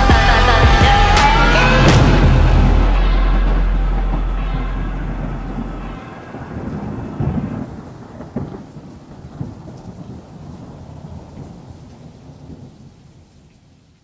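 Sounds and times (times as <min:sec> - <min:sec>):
thunder rumbling: 0:00.0 - 0:13.3
rain: 0:01.9 - 0:14.0.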